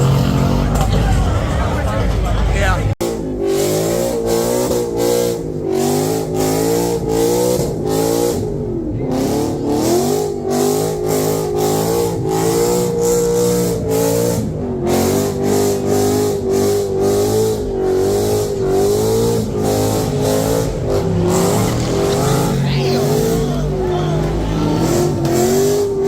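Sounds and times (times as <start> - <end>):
car engine revving hard: 0.0 - 2.0, 2.6 - 26.0.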